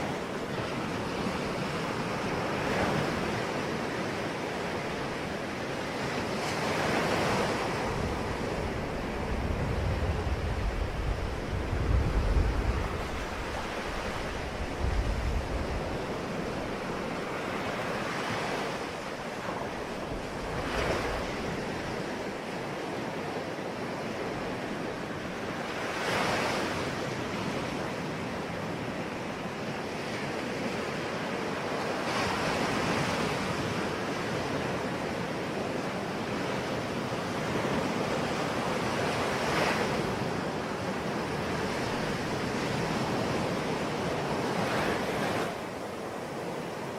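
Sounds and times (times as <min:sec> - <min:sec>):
ocean waves breaking on shore: 0:00.0 - 0:46.9
wind rumble on microphone: 0:00.0 - 0:46.9.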